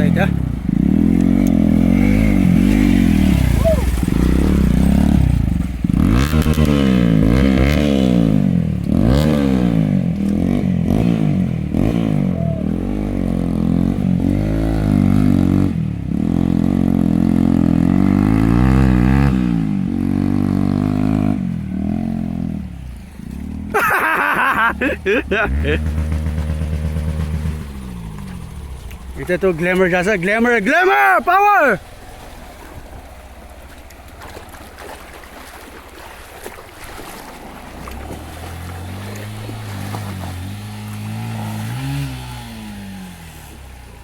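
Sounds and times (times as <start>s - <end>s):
motorcycle engine revving: 0.0s - 30.8s, 37.0s - 44.0s.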